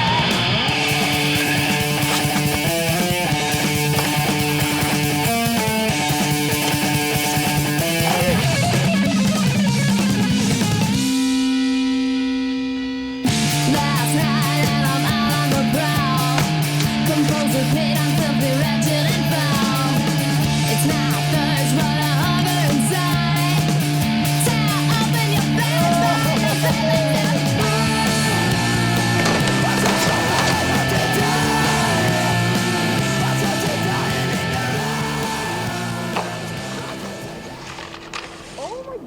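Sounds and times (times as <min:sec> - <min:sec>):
held electric guitar chord: 0:00.0 - 0:37.6
rock band playing: 0:00.0 - 0:38.5.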